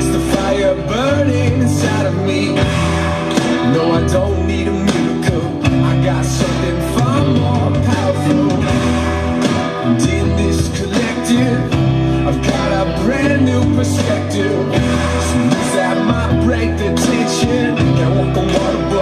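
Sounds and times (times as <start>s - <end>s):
electric guitar playing along: 0.0s - 19.0s
rock song with drums and bass: 0.0s - 19.0s.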